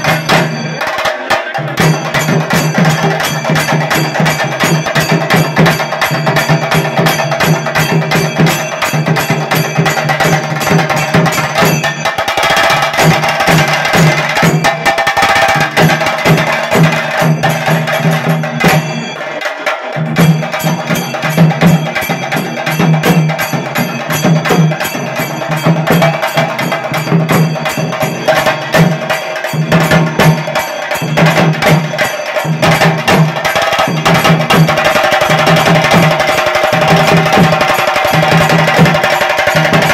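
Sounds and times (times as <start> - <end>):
drums beaten with sticks: 0.0 - 39.9.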